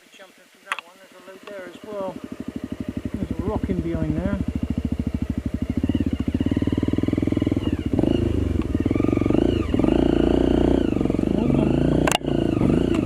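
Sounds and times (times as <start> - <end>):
motorcycle engine revving: 1.3 - 13.0.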